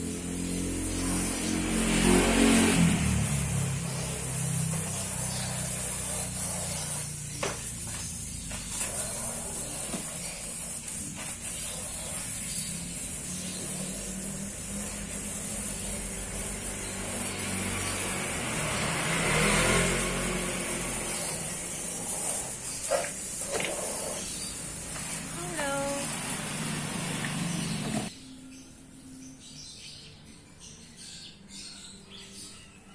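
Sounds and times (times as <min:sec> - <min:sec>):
vehicle engine passing: 0:00.0 - 0:10.7, 0:11.5 - 0:28.2.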